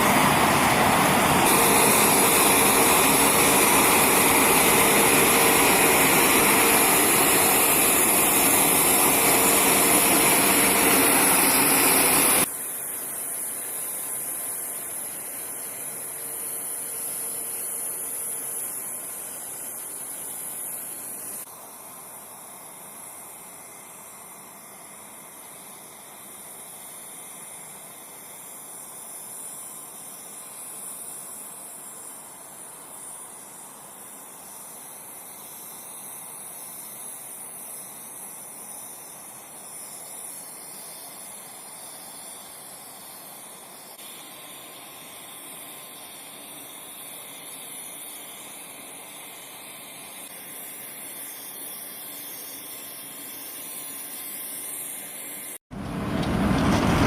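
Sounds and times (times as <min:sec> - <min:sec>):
steady high hiss: 0:00.0 - 0:55.6.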